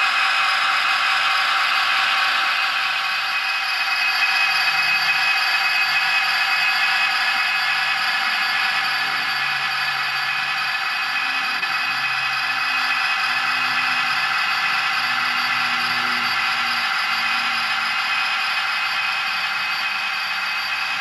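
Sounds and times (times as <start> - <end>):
diesel engine sound from small speaker: 0.0 - 21.0
model train wheels and motor: 0.0 - 21.0.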